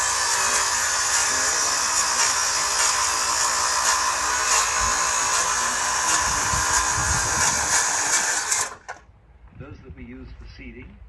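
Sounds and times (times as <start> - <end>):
high-pitched power tool running: 0.0 - 9.0.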